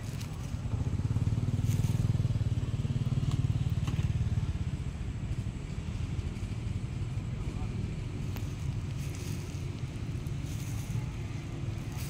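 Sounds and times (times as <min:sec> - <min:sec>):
pulsing engine rumble: 0:00.0 - 0:12.0.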